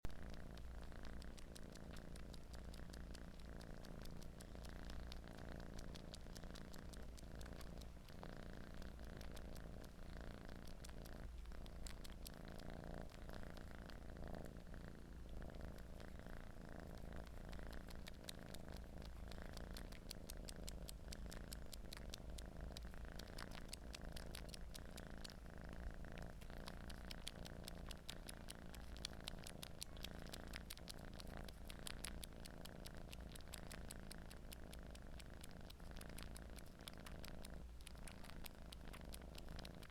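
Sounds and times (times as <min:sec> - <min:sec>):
cat purring: 0:00.0 - 0:39.9
wet sucking clicks: 0:00.3 - 0:39.9.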